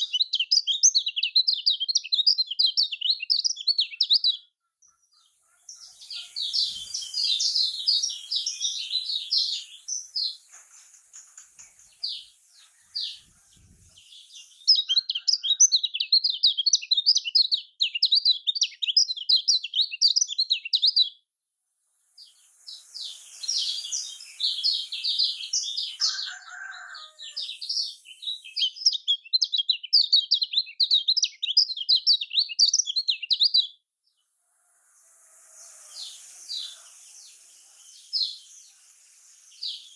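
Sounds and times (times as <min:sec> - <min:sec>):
small bird chattering song: 0:00.0 - 0:21.2, 0:22.1 - 0:39.9.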